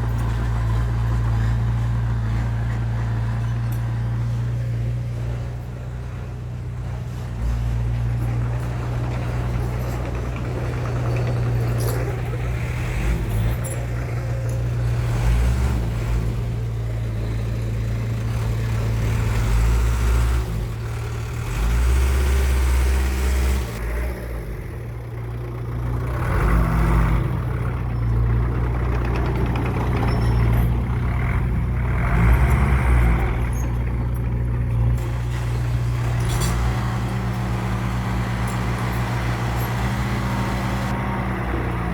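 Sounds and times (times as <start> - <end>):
diesel machinery engine rumbling: 0.0 - 41.9.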